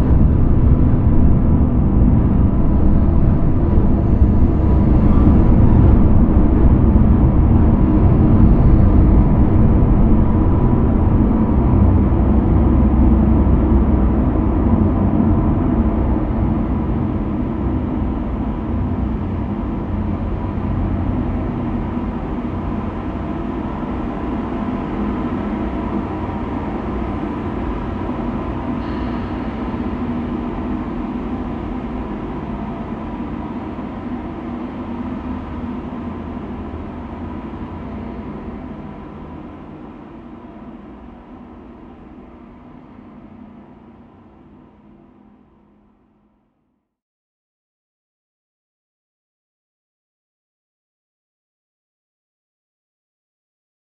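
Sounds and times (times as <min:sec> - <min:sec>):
deep rumbling drone: 0:00.0 - 0:45.5.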